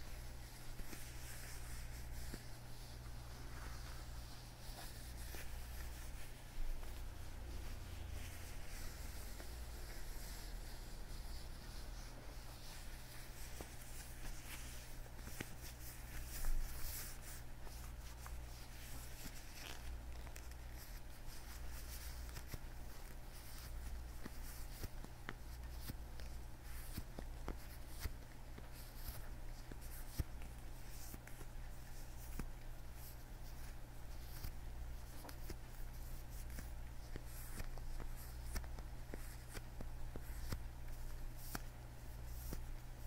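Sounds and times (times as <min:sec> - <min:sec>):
leather gloves rubbing and creaking: 0:00.0 - 0:43.0.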